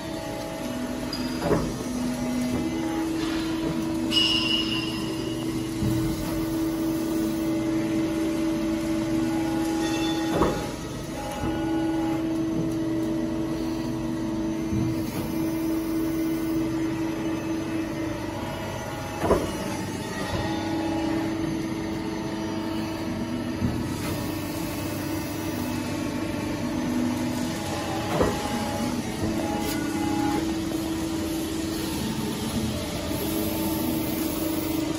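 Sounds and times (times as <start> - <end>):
hydraulic pump humming: 0.0 - 34.9.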